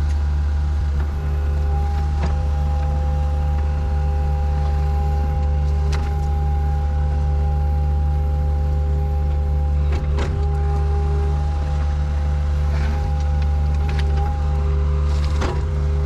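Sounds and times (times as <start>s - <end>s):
engine humming with whine: 0.0s - 16.0s.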